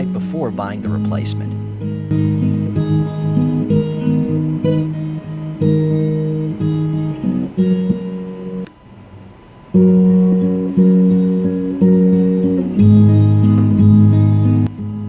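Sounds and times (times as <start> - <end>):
plucked acoustic guitar: 0.0 - 8.7, 9.7 - 15.0.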